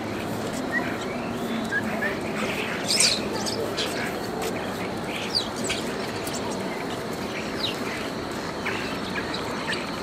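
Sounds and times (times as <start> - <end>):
city noise hum: 0.0 - 10.0
starlings chirping and whistling: 0.6 - 4.0, 5.0 - 10.0.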